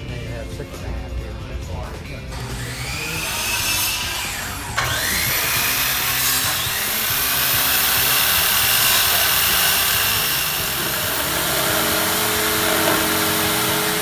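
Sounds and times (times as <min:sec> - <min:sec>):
circular saw cutting wood: 0:02.2 - 0:14.0.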